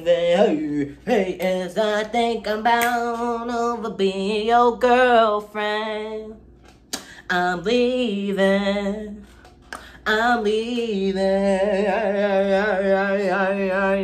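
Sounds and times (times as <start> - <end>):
man singing a cappella: 0.0 - 6.4, 7.2 - 14.0.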